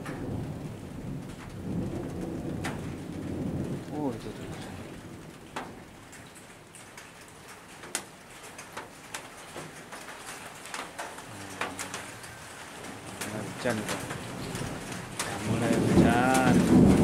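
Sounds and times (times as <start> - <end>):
rain hiss: 0.0 - 17.0
raindrops ticking on surfaces: 0.0 - 17.0.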